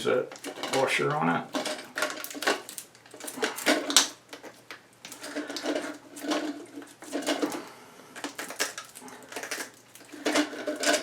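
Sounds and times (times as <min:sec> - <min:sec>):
handling noise: 0:00.0 - 0:11.0.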